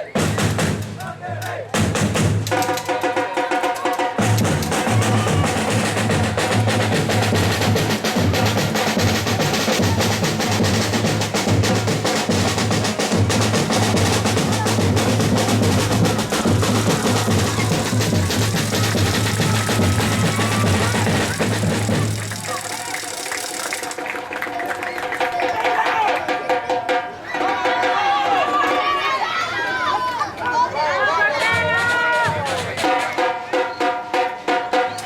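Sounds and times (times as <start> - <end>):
music with fast drumming: 0.1 - 1.0, 1.7 - 28.0, 31.6 - 35.0.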